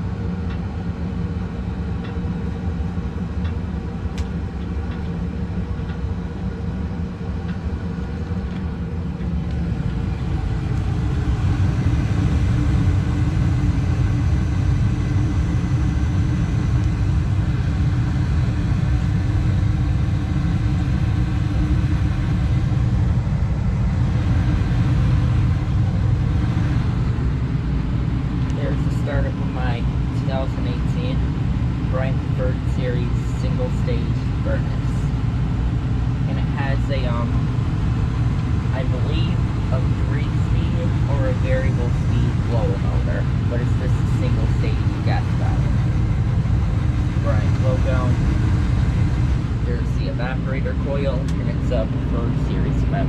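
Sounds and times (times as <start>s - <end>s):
gas furnace rumbling: 0.0s - 53.0s.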